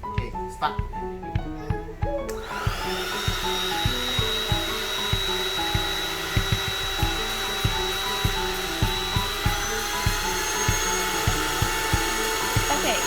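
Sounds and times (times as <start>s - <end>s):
background music with beat: 0.0s - 13.0s
electric air pump whining: 1.4s - 13.0s.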